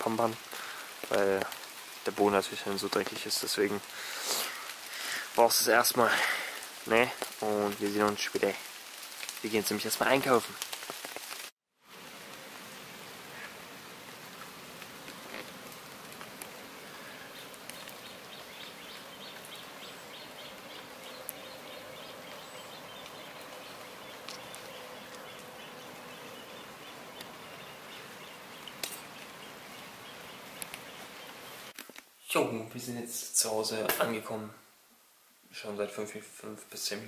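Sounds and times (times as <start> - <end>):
light rain on water and leaves: 0.0 - 37.0.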